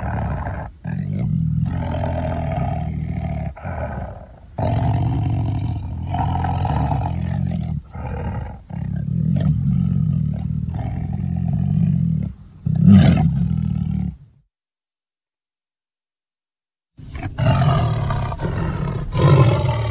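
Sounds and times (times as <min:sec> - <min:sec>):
tiger roaring: 0:00.0 - 0:14.2, 0:17.1 - 0:19.9.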